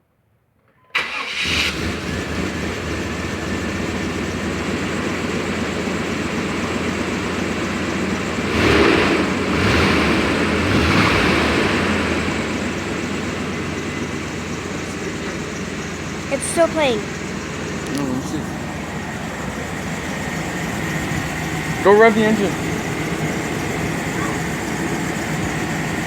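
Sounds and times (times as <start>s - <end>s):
pickup truck engine rumbling: 1.0s - 26.0s.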